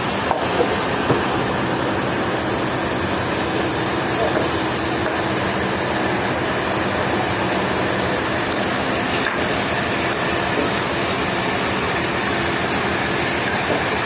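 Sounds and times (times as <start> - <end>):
sawmill machinery running: 0.0 - 14.0.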